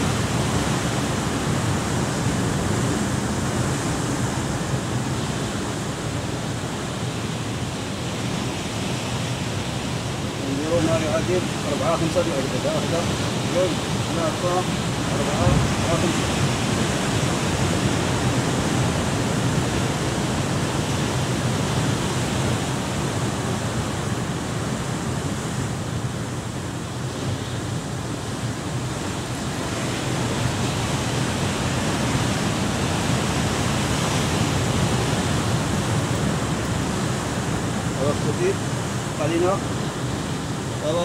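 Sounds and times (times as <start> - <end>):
waves breaking over rocks: 0.0 - 41.0.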